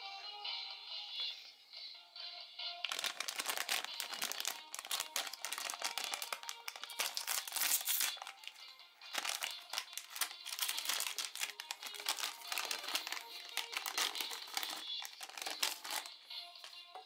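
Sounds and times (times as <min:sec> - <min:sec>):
music playing: 0:00.0 - 0:17.0
foil packaging crinkling: 0:02.8 - 0:16.8.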